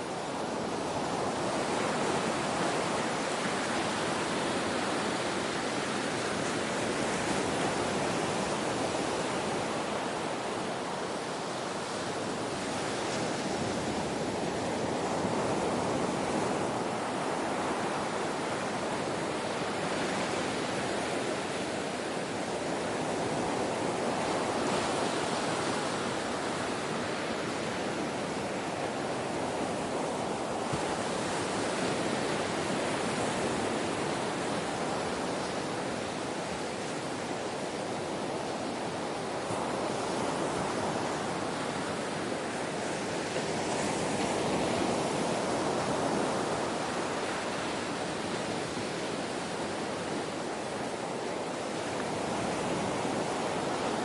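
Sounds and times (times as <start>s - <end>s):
ocean surf waves: 0.0s - 54.0s.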